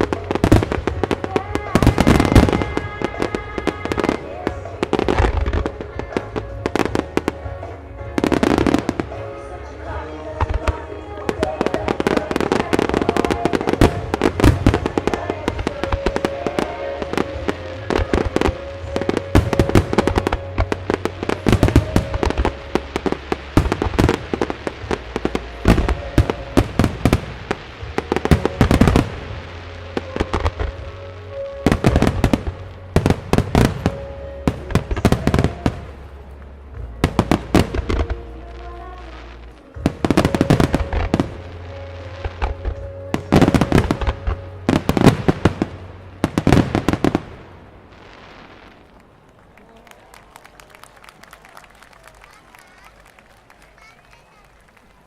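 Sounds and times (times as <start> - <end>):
fireworks bursting: 0.0 - 55.0
music playing: 0.0 - 55.0.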